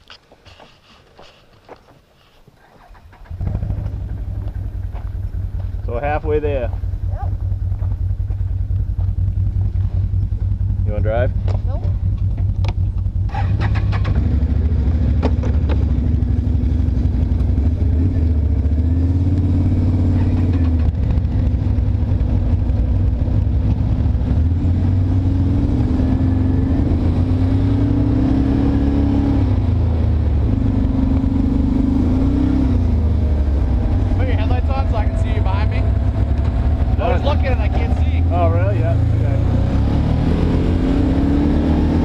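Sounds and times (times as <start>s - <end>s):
atv engine running: 2.8s - 42.0s.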